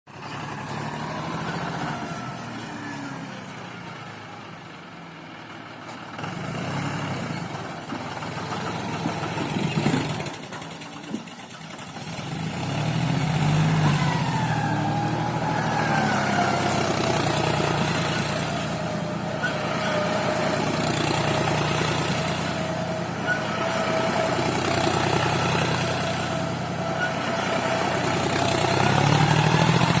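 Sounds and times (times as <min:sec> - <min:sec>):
tractor diesel engine under load: 0:00.1 - 0:30.0.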